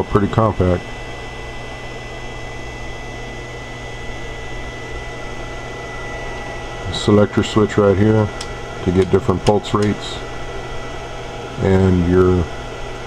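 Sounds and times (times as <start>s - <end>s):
electrical hum and fan whir: 0.0s - 13.0s
thin high whine: 0.0s - 13.0s.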